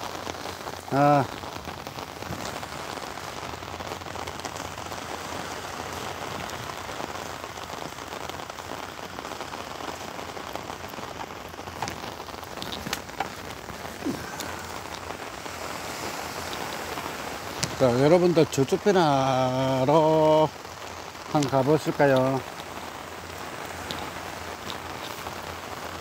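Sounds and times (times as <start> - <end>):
rain hissing on umbrella: 0.0 - 26.0.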